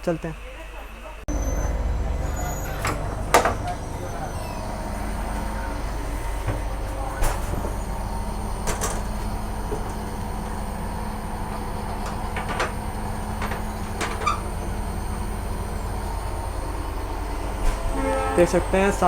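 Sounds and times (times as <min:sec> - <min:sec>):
low hum of train coach: 0:00.0 - 0:19.0.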